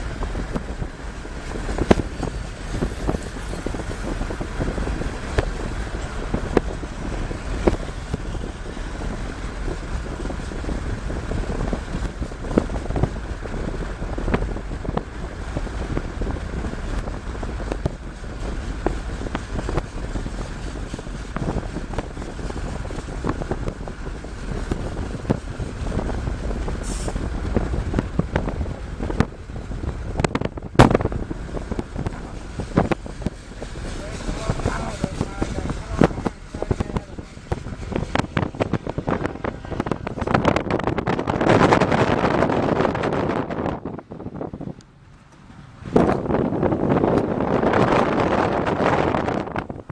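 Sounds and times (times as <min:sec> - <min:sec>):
car road noise: 0:00.0 - 0:49.9
wind buffeting microphone: 0:00.0 - 0:49.9.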